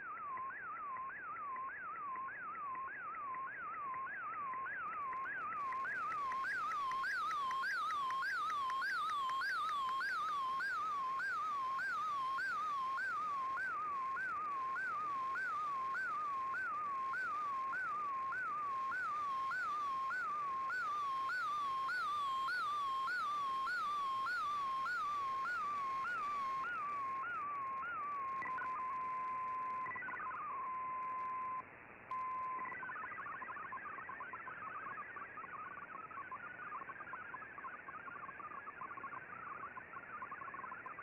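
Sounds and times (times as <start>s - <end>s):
warbling data tones: 0.0s - 41.0s.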